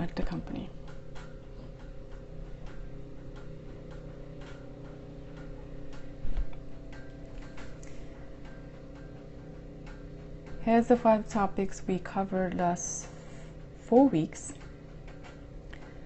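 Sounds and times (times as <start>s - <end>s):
light irregular clicks: 0.0s - 16.0s
steady low hum: 0.0s - 16.0s.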